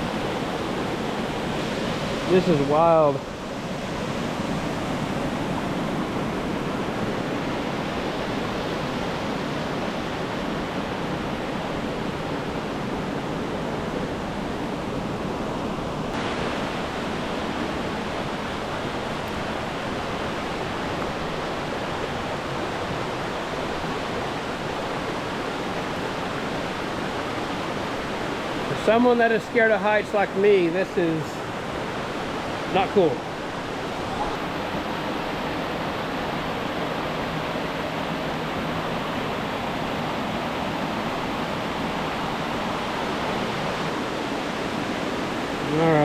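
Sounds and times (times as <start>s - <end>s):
waterfall rushing: 0.0s - 10.9s, 16.1s - 46.0s.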